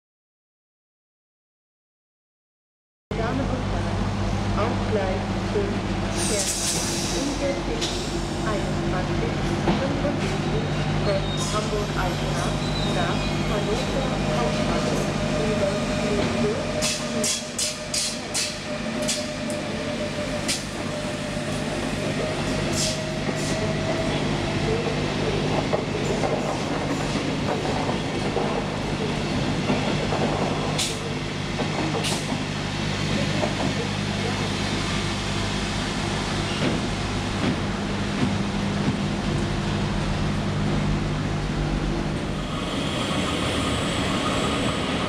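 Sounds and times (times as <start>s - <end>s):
train low hum: 3.1s - 45.0s.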